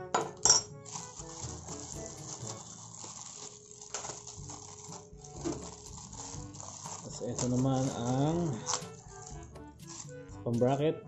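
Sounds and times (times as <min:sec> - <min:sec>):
plastic bag and bubble wrap crinkling: 0:00.8 - 0:10.3.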